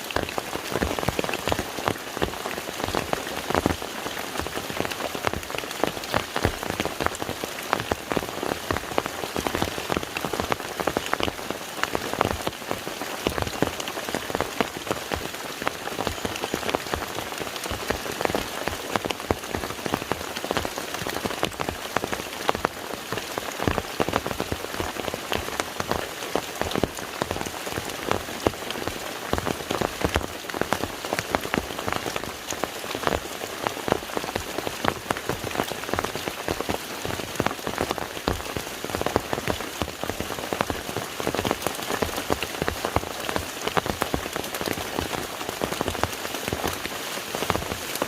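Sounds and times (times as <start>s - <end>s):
rain falling on water: 0.0s - 48.0s.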